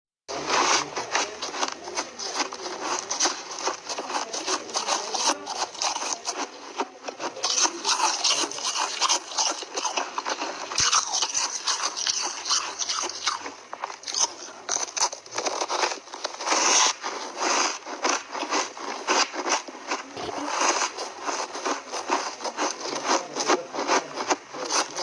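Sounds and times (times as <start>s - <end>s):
ice being chewed: 0.3s - 25.0s.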